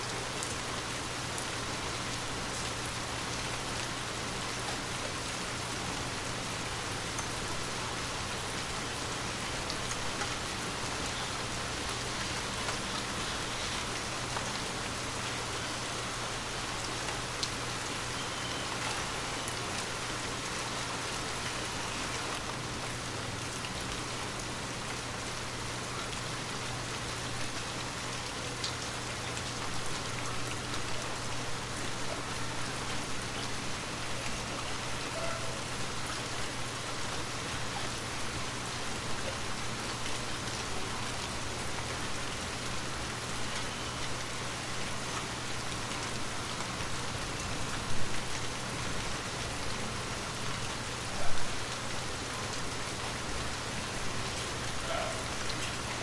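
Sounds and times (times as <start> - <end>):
light rain on a window: 0.0 - 56.0.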